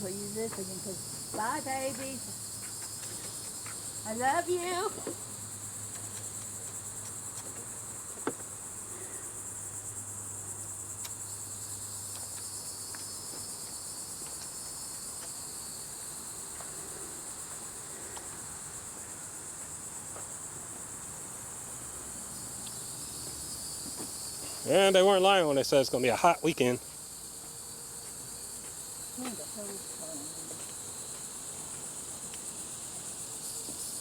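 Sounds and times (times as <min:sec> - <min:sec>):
insect chorus buzzing: 0:00.0 - 0:34.0.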